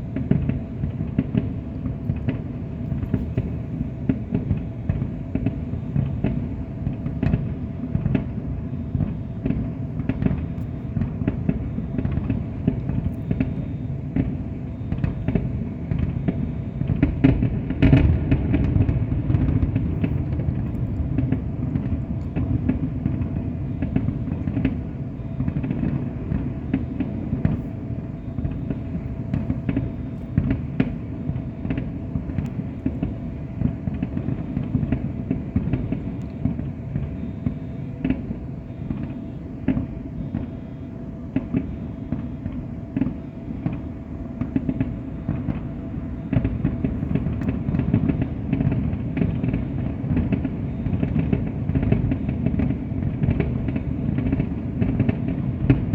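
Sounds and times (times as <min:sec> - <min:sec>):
fireworks booming and crackling: 0:00.0 - 0:55.9.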